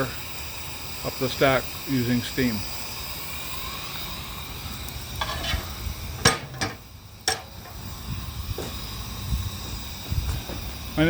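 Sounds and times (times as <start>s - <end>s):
steam blower hissing: 0.0s - 11.0s.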